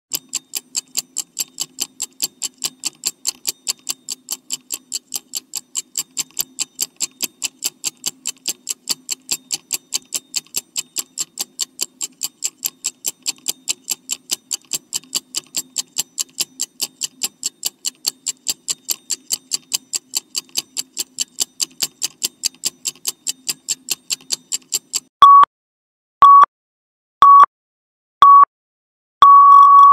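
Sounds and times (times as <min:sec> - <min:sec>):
clock ticking: 0:00.1 - 0:25.1.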